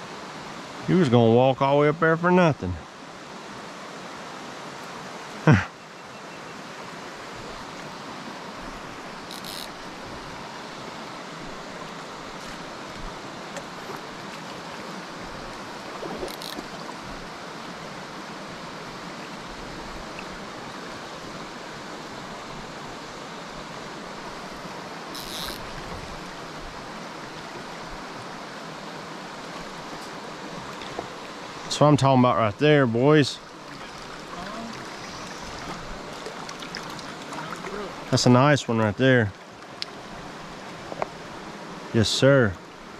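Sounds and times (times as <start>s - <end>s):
creek flowing over rocks: 0.0s - 5.5s, 6.5s - 42.9s.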